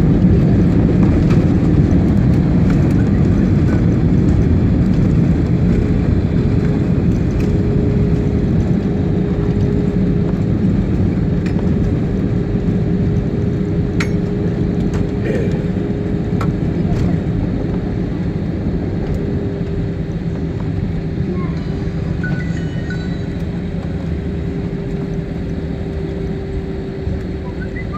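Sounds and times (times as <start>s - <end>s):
jet engine cabin rumble: 0.0s - 27.9s
steady whine: 0.0s - 27.9s.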